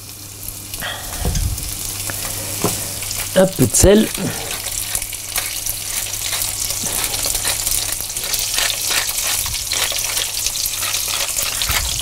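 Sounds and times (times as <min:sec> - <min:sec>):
foie gras sizzling in a hot pan: 0:00.0 - 0:12.0.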